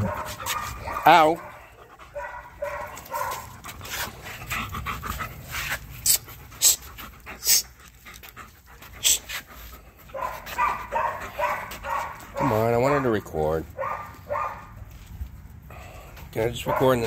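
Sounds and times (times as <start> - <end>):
dog panting: 0.0 - 14.6, 16.5 - 17.0.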